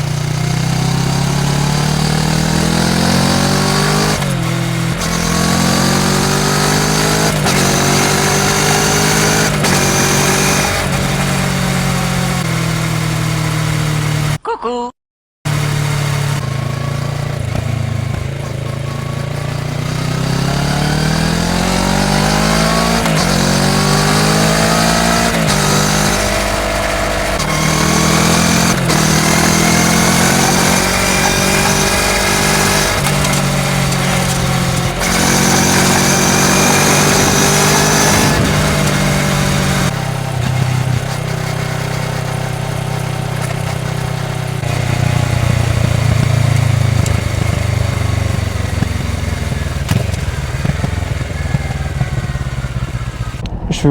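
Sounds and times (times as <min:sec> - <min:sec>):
motorcycle engine accelerating: 0:00.0 - 0:14.4, 0:15.4 - 0:53.9.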